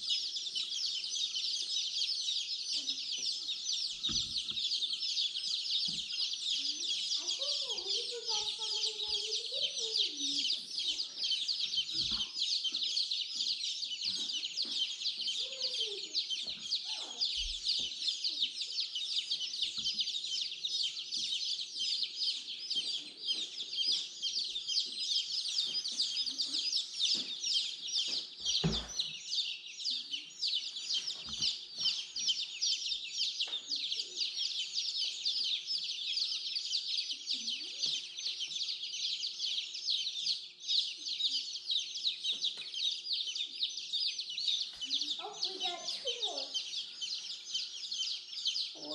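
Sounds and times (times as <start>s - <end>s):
chicks peeping: 0.0s - 48.9s.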